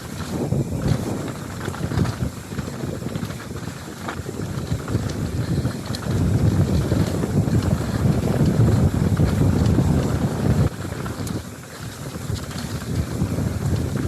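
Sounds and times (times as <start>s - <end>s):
small ticks and rattles: 0.0s - 14.0s
wind buffeting microphone: 0.0s - 14.0s.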